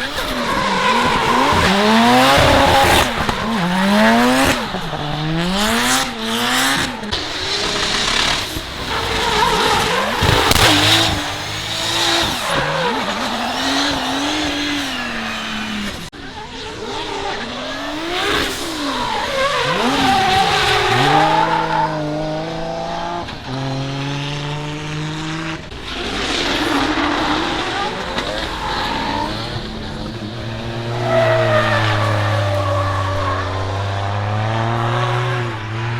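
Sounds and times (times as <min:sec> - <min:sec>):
tyre noise: 0:00.0 - 0:16.4, 0:17.8 - 0:35.9
car engines revving hard: 0:00.0 - 0:35.9.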